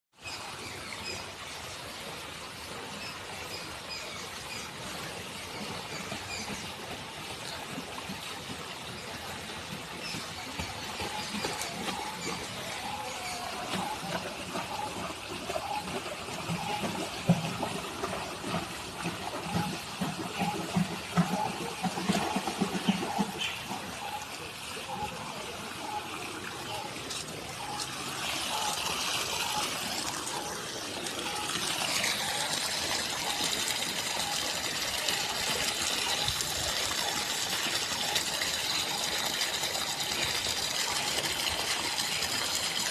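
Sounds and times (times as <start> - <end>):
water splashing and trickling: 0.2 - 42.9.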